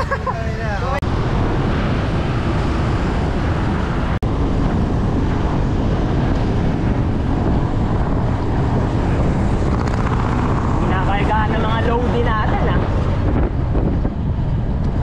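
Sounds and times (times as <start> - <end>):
road and traffic rumble: 0.0 - 15.0
wind on microphone: 1.0 - 15.0.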